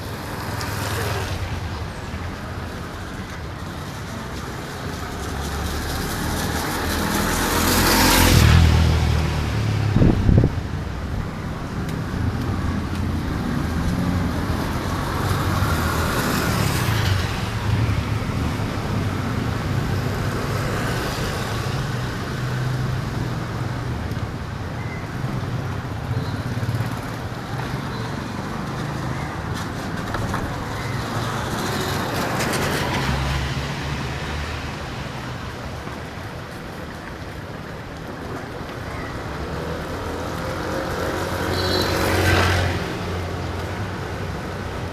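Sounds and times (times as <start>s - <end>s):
road traffic noise: 0.0s - 44.9s
vehicles passing close by: 0.0s - 44.9s.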